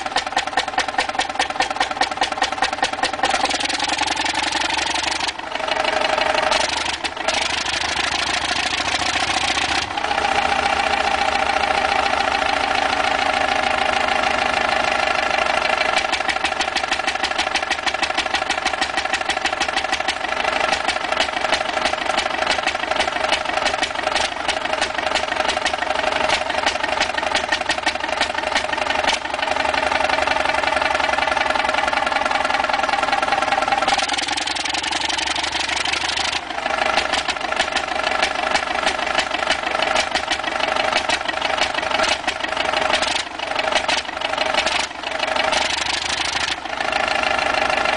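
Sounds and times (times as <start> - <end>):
stationary engine running: 0.0 - 47.9.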